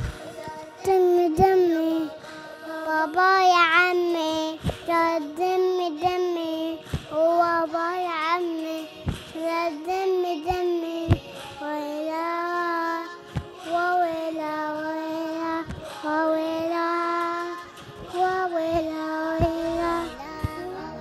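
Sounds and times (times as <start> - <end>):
child singing slow melody: 0.0 - 21.0.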